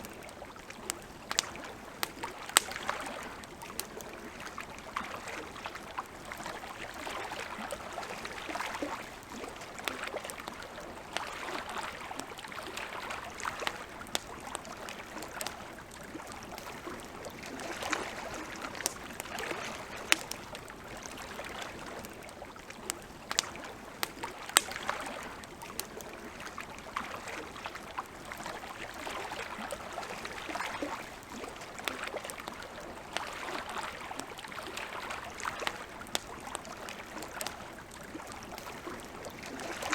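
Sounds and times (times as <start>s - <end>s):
campfire crackling and popping: 0.0s - 39.9s
lake water lapping: 0.0s - 39.9s.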